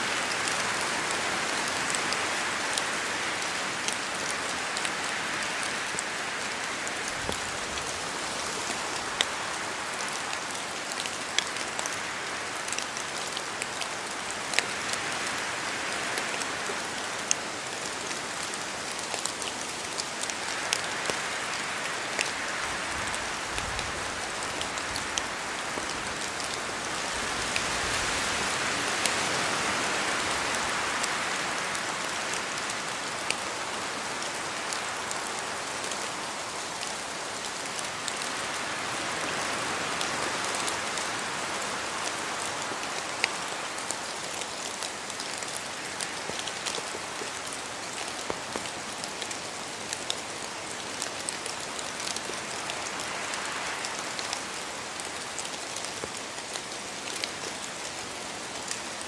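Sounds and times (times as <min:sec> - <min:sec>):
steady rain in a forest: 0:00.0 - 0:59.0
wind gusts through canopy: 0:00.0 - 0:59.0.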